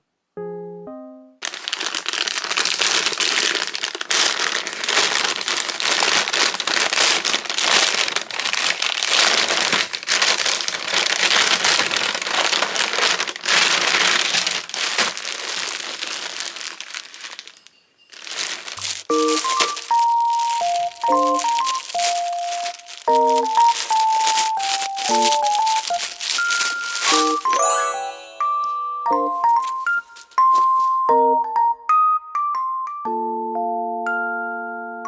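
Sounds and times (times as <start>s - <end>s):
packaging crinkling: 1.4s - 31.1s.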